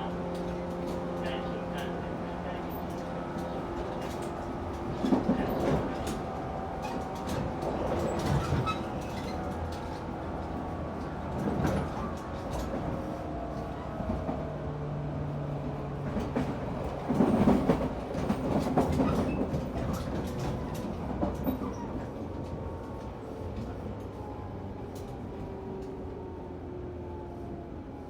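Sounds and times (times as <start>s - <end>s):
train rattling: 0.0s - 26.3s
train wheels rumbling on rail: 0.0s - 28.0s.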